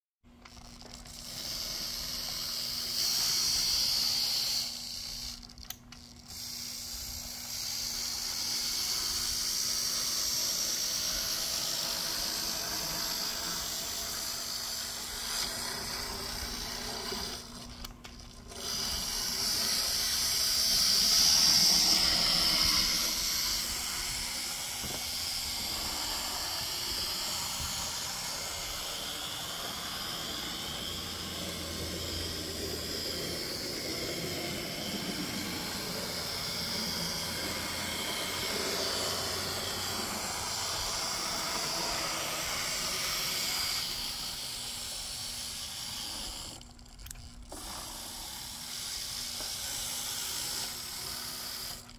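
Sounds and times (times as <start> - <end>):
model train motor whirring: 0.4 - 51.9.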